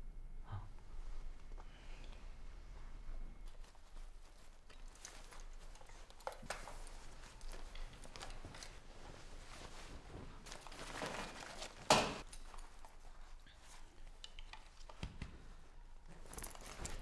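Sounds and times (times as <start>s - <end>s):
clothing rustling: 0.9s - 17.0s.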